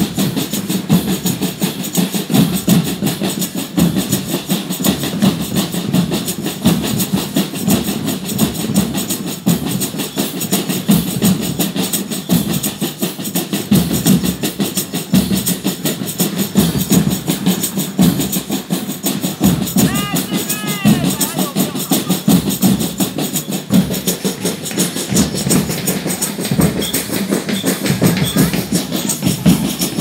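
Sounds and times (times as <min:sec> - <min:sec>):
drum beats: 0:00.0 - 0:30.0
tambourines and shakers jingling: 0:00.0 - 0:30.0.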